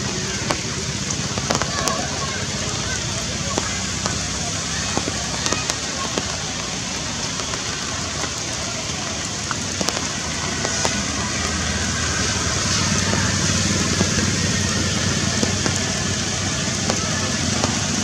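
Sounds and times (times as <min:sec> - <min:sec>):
constant hiss: 0:00.0 - 0:18.0
small crackles and clicks: 0:00.0 - 0:18.0.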